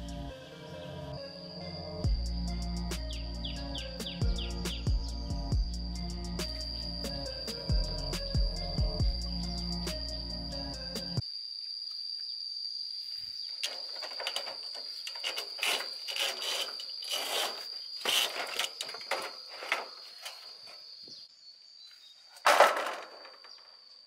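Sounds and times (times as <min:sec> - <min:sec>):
insect trill: 0:00.0 - 0:24.0.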